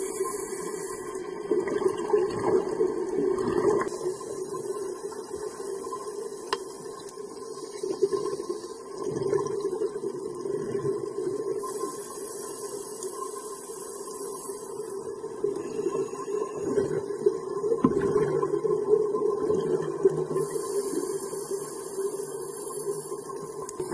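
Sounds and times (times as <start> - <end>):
muffled underwater hiss: 0.0 - 23.9
scuba exhaust bubbles: 0.0 - 23.9.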